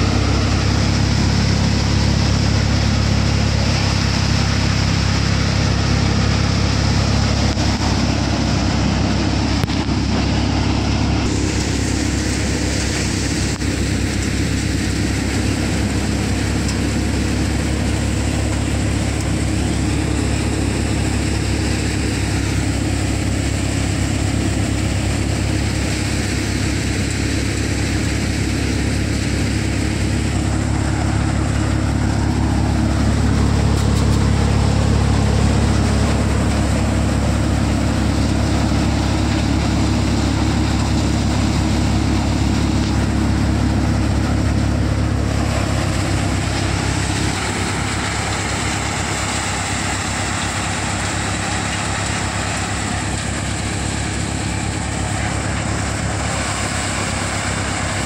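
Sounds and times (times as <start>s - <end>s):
low engine drone: 0.0s - 58.0s
threshing machine rushing noise: 0.0s - 58.0s.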